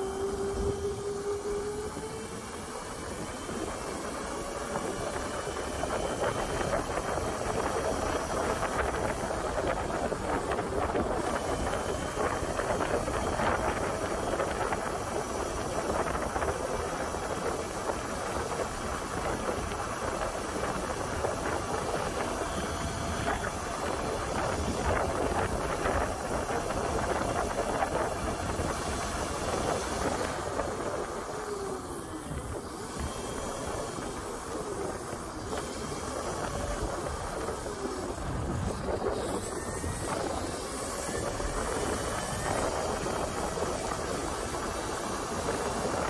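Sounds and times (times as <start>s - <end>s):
electric motor whining: 0.0s - 46.0s
wind rush: 0.0s - 46.0s.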